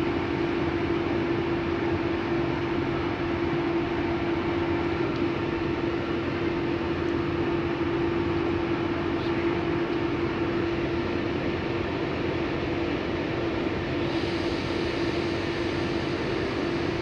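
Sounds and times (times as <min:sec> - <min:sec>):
train cooling fans humming: 0:00.0 - 0:17.0.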